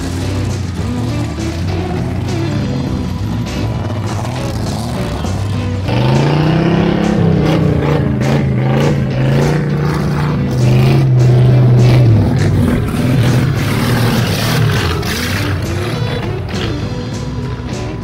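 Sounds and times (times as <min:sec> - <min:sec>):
pickup truck engine revving: 0:00.0 - 0:18.0.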